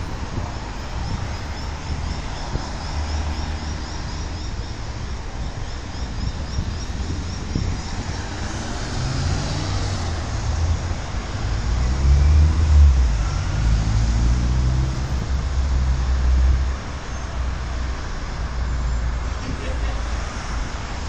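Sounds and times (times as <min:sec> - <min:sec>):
car engines and tyre noise: 0:00.0 - 0:21.0
low traffic rumble: 0:00.0 - 0:21.0.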